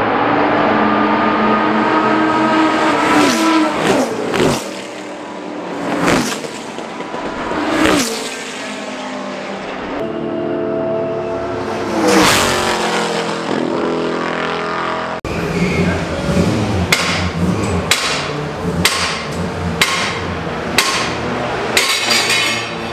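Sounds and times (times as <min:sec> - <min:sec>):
race cars passing at full throttle: 0:00.0 - 0:22.9.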